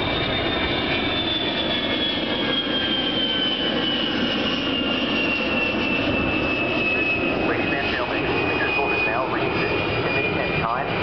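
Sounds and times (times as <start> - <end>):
jet roar with high whine: 0.0 - 11.0.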